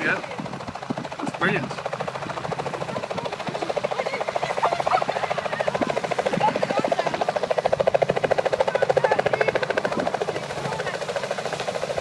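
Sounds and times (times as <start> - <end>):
helicopter engine whine: 0.0 - 12.0
helicopter rotor chopping: 0.0 - 12.0.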